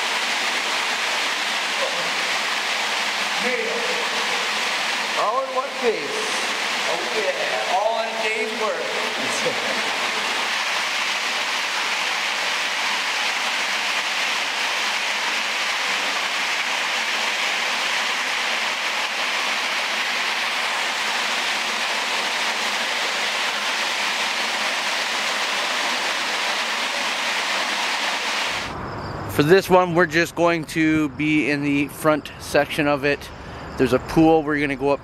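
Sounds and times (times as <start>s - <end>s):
water rushing through tunnel: 0.0s - 28.7s.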